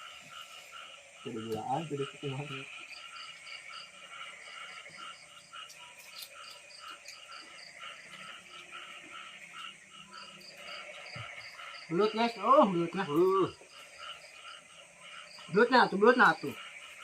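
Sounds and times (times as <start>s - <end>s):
frogs calling: 0.0s - 17.0s
insects calling: 0.0s - 17.0s.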